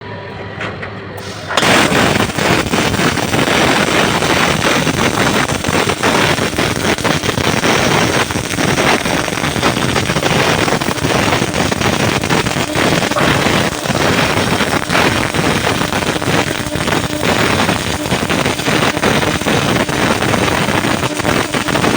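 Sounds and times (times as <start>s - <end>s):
welding arc crackling sizzle: 1.2s - 21.9s.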